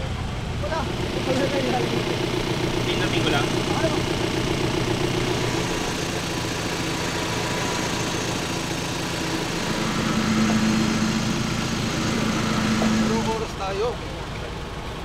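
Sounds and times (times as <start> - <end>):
engine idling: 0.0 - 15.0
higher hum: 0.5 - 13.6.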